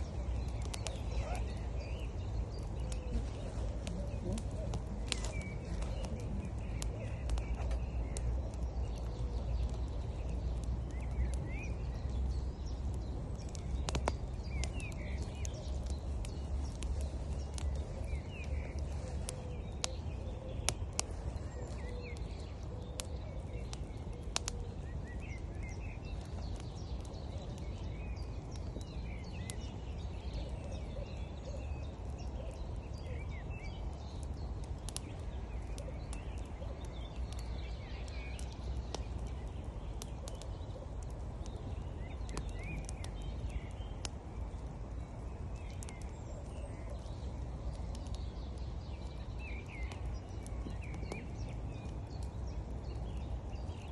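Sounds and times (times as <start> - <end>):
small birds chirping: 0.0 - 53.9
wood fire crackling and popping: 0.0 - 53.9.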